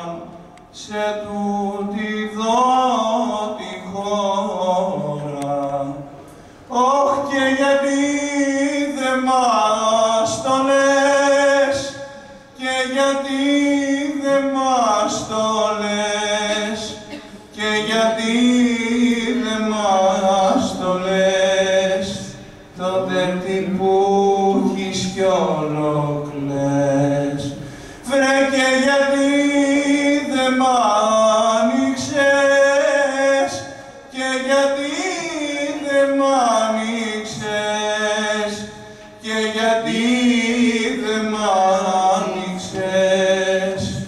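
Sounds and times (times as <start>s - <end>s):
man singing long held notes: 0.0s - 44.0s.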